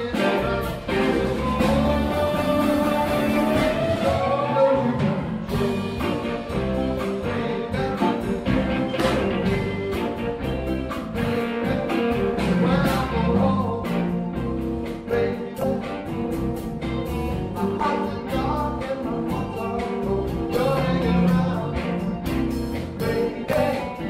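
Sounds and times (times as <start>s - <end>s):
live band playing upbeat song: 0.0s - 24.0s.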